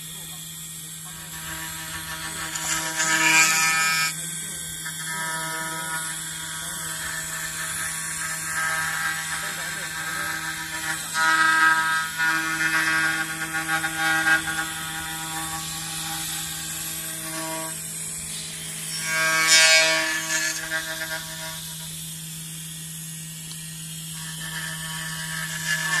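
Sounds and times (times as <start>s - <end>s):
router spindle whining cutting wood: 0.0s - 26.0s.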